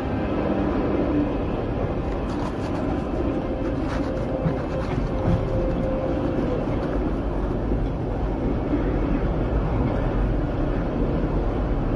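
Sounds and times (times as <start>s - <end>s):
cargo plane roar from inside: 0.0s - 11.9s.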